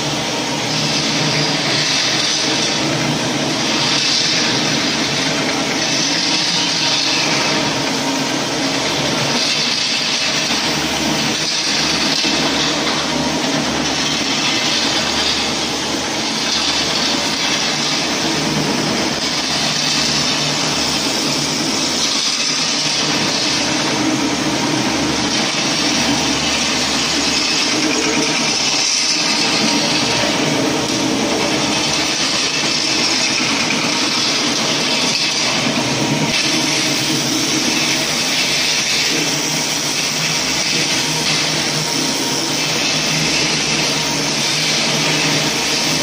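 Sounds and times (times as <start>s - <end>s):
floor grinding machine: 0.0s - 46.0s.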